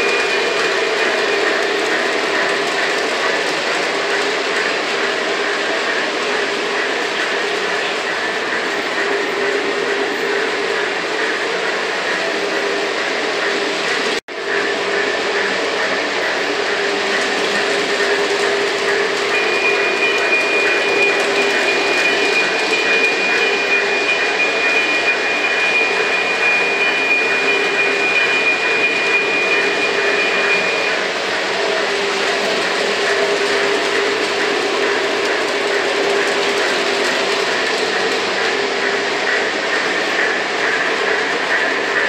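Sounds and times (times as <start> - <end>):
model trains whirring on track: 0.0 - 42.0.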